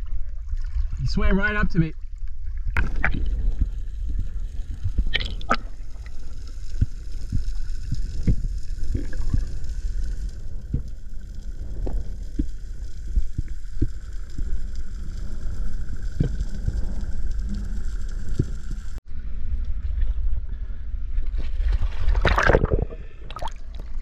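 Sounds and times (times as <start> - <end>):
muffled underwater rumble: 0.0 - 24.0.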